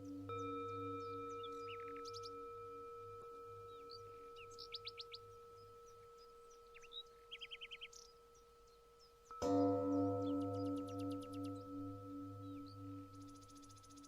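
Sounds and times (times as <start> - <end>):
singing bowl humming: 0.0 - 14.0
songbirds chirping: 0.0 - 14.0.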